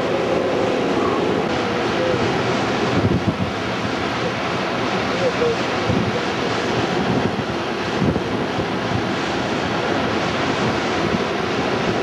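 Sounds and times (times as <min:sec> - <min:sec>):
rain rushing: 0:00.0 - 0:12.0
strong wind: 0:00.0 - 0:12.0
wind buffeting microphone: 0:00.0 - 0:12.0.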